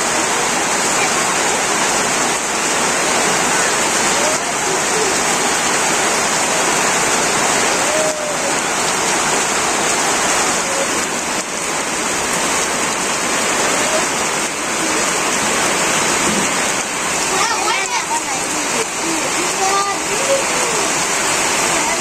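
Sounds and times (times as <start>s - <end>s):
rain on tin roofs: 0.0s - 22.0s.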